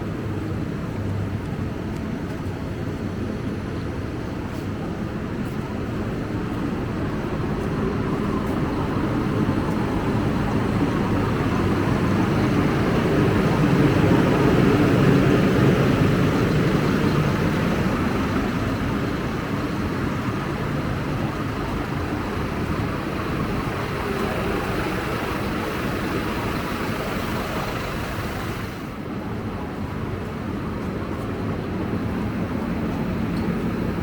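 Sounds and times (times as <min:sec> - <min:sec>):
bus engine and road noise: 0:00.0 - 0:34.0.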